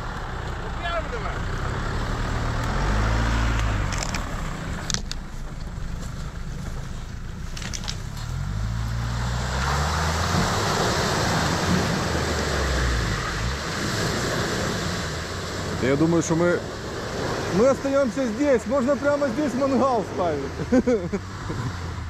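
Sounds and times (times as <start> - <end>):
car engine revving: 0.0 - 22.0
water and mud splashing: 2.7 - 22.0.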